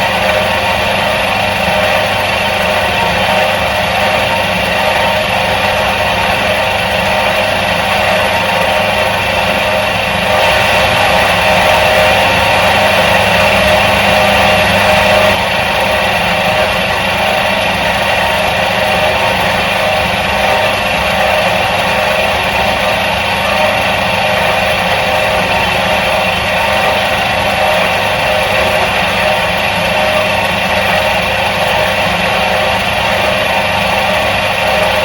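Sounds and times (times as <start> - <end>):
washing machine motor humming: 0.0 - 35.0.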